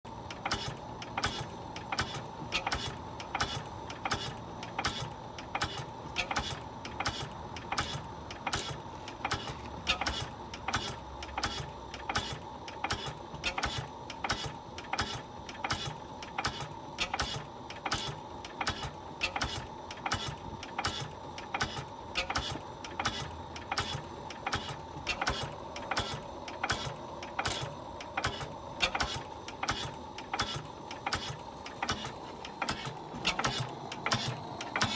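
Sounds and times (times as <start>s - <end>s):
oil engine knocking rhythmically: 0.1s - 34.9s.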